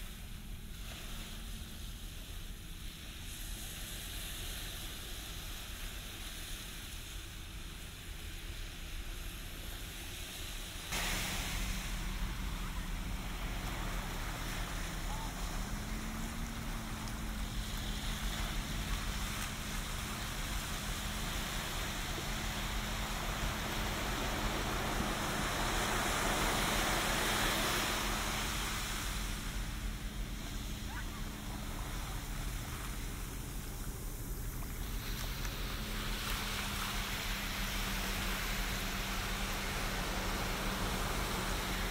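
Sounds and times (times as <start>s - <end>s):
low steady hum: 0.0s - 41.9s
waves breaking on a beach: 0.0s - 41.9s.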